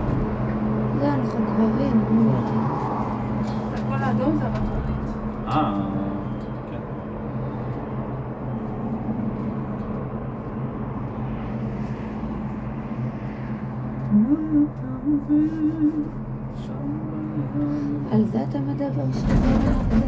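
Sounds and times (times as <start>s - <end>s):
cable car hum and rumble: 0.0s - 20.0s.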